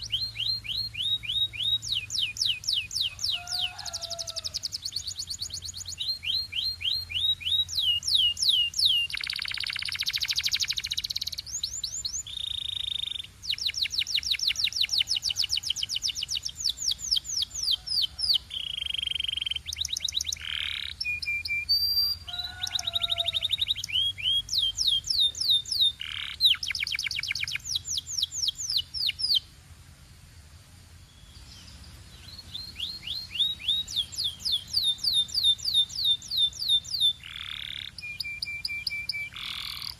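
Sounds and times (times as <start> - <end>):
canary singing trills: 0.0 - 29.5, 31.1 - 39.9.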